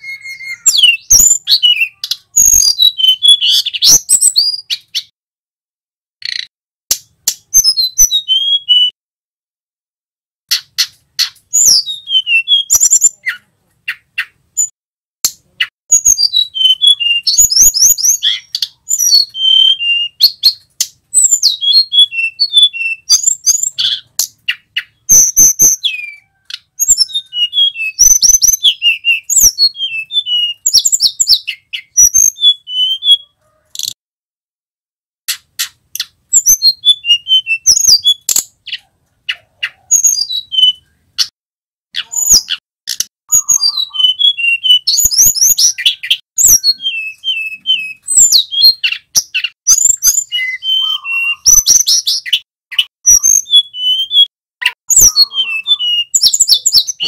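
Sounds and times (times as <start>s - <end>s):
bird whistled warbling song: 0.0s - 5.1s, 6.2s - 9.0s, 10.5s - 14.8s, 15.6s - 34.0s, 35.3s - 41.3s, 42.0s - 57.0s.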